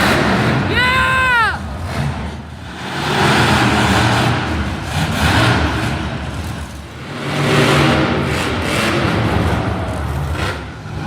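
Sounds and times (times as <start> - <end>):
truck engine revving: 0.0 - 0.7, 1.6 - 11.0.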